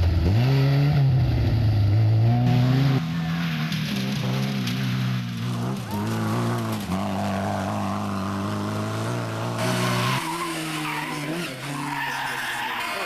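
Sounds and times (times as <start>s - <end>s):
rally car engine revving: 0.0s - 13.0s
tyres skidding: 0.0s - 13.0s.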